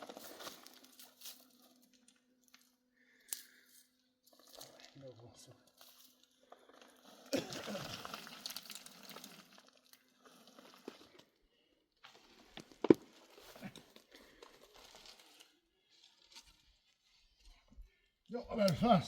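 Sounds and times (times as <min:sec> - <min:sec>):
rustling and crinkling handling: 0:00.0 - 0:11.4, 0:12.0 - 0:17.7.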